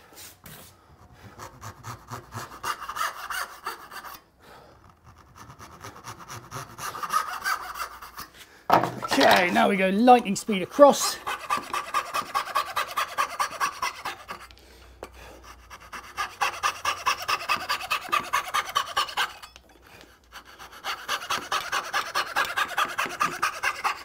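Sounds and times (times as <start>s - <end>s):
coping saw rasping strokes: 1.2s - 4.3s, 4.9s - 8.4s, 10.8s - 24.0s.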